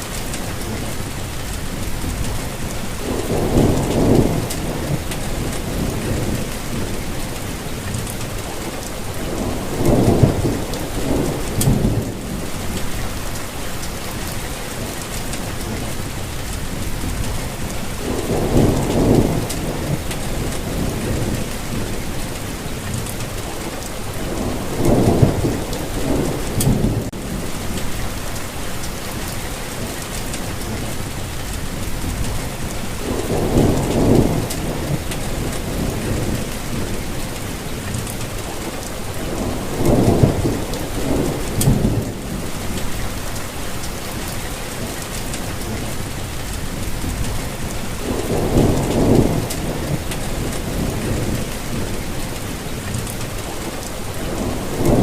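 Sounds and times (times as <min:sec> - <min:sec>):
steady rain falling: 0:00.0 - 0:55.0
low roll of thunder: 0:01.8 - 0:13.4, 0:16.7 - 0:28.4, 0:30.5 - 0:43.3, 0:45.5 - 0:55.0.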